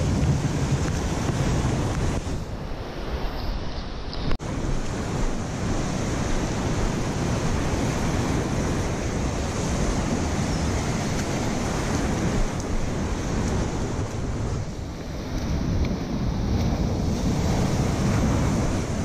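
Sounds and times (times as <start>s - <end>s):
surf washing against rocks: 0.0s - 19.0s
wind buffeting microphone: 0.0s - 19.0s.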